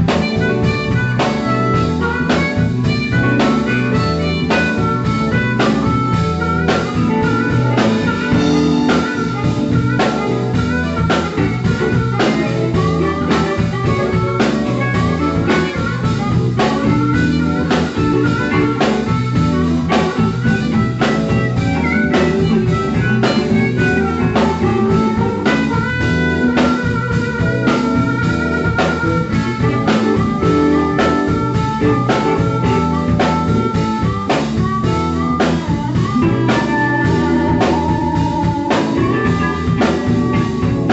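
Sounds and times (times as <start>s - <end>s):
drums keeping a beat: 0.0s - 40.9s
guitar: 0.0s - 40.9s
harmonica: 0.0s - 40.9s
live blues band: 0.0s - 40.9s.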